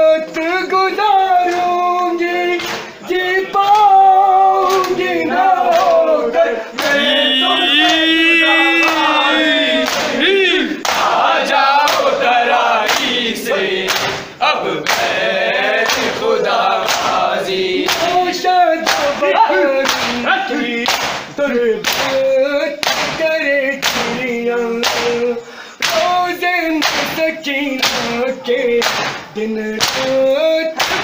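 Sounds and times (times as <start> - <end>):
men chanting in chorus: 0.0 - 31.0.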